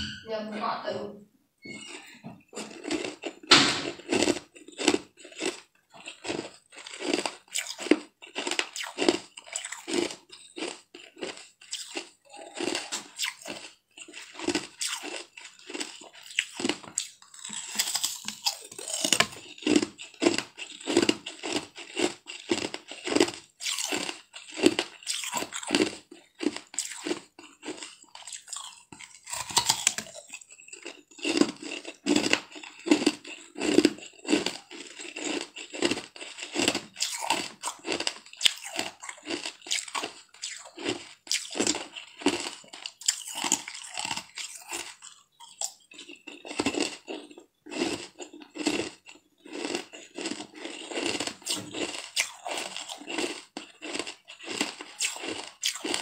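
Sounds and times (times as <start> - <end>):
crisp crunching bites: 2.6 - 56.0.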